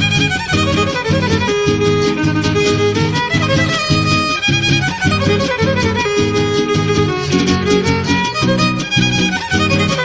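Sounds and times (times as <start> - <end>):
strummed guitar chords: 0.0 - 10.0
violin melody: 0.0 - 10.0.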